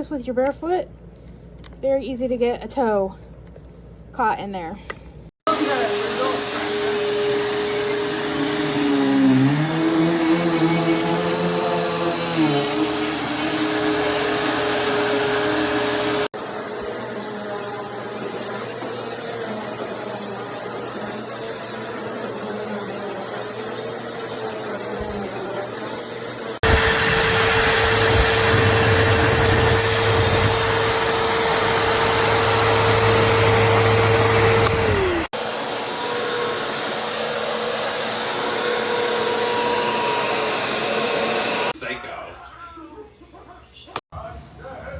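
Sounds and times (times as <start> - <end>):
vacuum cleaner motor whining: 5.4 - 41.8.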